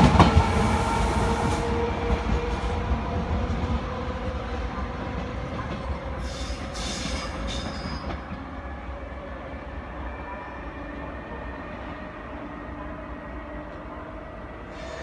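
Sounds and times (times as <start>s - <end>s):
electric train rumble and hum: 0.0s - 15.0s.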